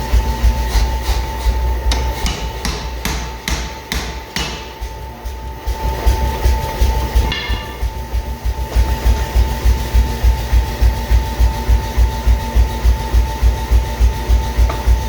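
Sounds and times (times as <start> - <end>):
machine thumping rhythmically: 0.0 - 15.0
steady high hum: 0.0 - 15.0.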